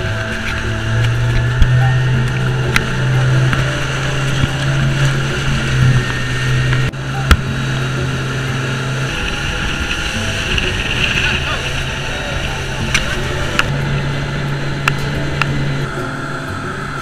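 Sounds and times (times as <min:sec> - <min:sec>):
outboard engine drone: 0:00.0 - 0:17.0
water spraying along hull: 0:00.0 - 0:17.0.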